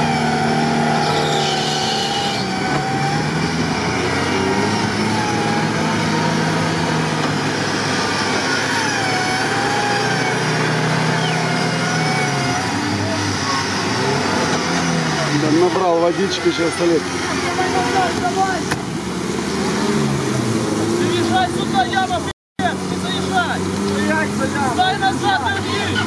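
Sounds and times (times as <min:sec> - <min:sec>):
engine revving under load: 0:00.0 - 0:26.0.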